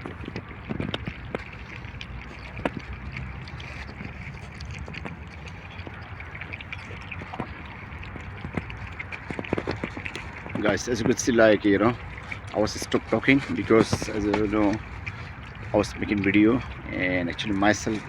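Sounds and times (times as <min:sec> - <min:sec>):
puppies lapping milk: 0:00.0 - 0:18.0.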